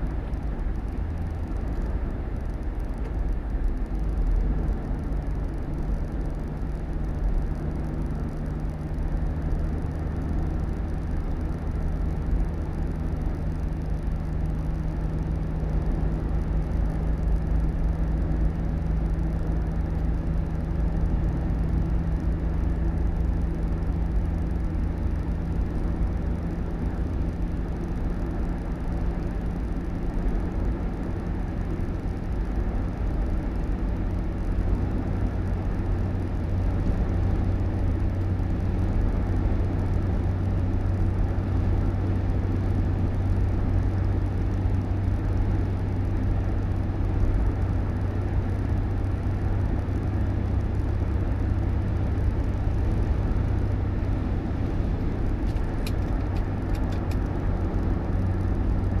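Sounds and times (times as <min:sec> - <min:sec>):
road rumble: 0:00.0 - 0:59.0
vehicle engine hum: 0:00.0 - 0:59.0.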